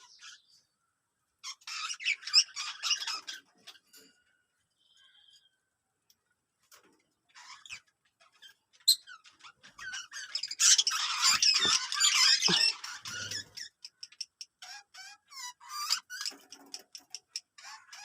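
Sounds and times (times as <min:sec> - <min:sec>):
birds chattering and squawking: 0:00.0 - 0:18.0.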